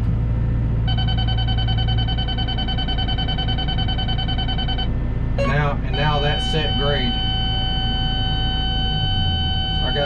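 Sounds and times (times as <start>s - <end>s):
diesel engine running: 0.0s - 10.0s
steady electronic beep tone: 0.9s - 10.0s.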